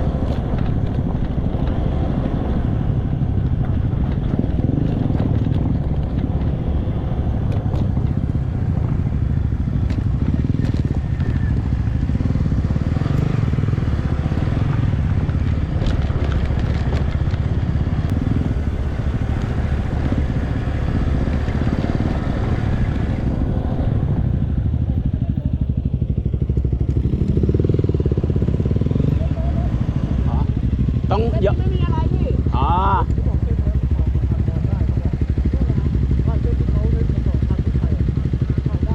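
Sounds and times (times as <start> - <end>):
motorcycle engine rumbling: 0.0 - 38.9
road noise: 0.0 - 38.9.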